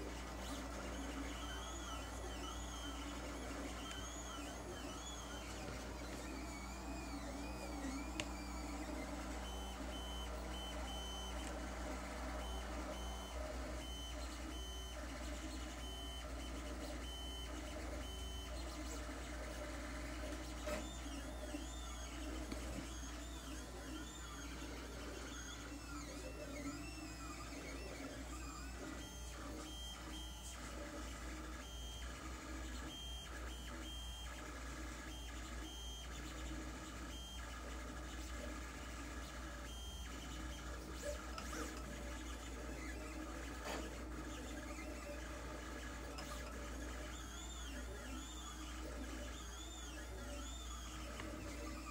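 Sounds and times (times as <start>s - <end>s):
stepper motors whining: 0.0s - 51.9s.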